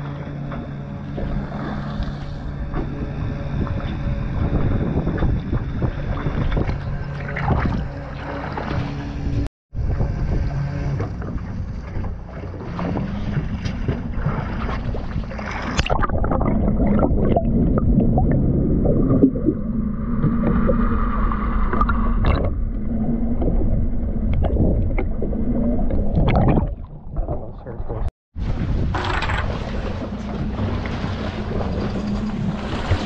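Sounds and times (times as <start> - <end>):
boat engine hum: 0.0 - 33.0
muffled underwater rumble: 0.0 - 33.0
water and wind noise: 0.0 - 33.0.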